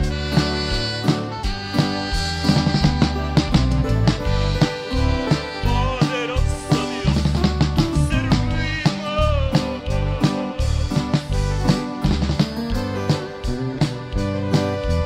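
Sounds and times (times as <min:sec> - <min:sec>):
bending lead melody: 0:00.0 - 0:15.0
drum kit steady beat: 0:00.0 - 0:15.0
electric bass walking line: 0:00.0 - 0:15.0.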